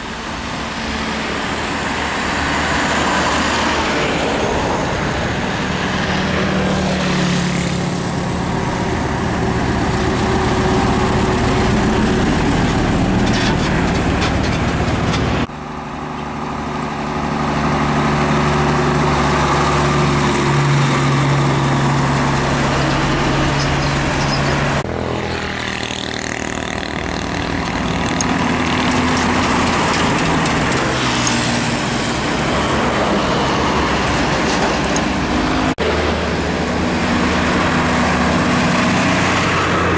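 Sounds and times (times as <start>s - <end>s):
truck diesel engines passing: 0.0s - 39.9s
tyre and road noise: 0.0s - 39.9s.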